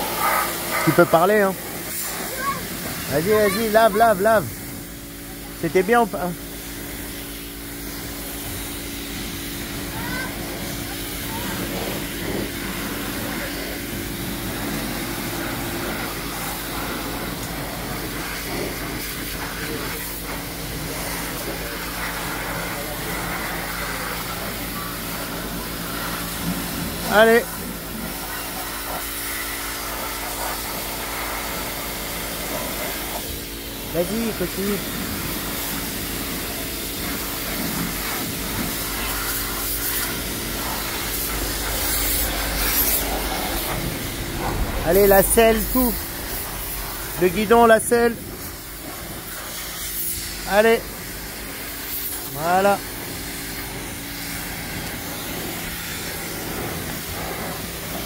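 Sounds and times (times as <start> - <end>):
pressure washer motor hum: 0.0 - 58.0
water jet hissing: 0.0 - 58.0.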